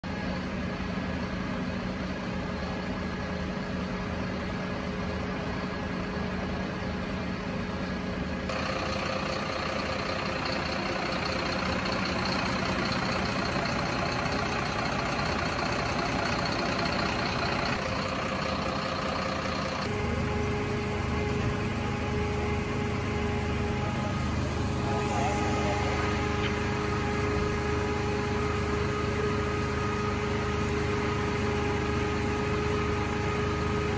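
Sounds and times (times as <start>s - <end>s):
heavy vehicle engines idling: 0.0s - 33.9s.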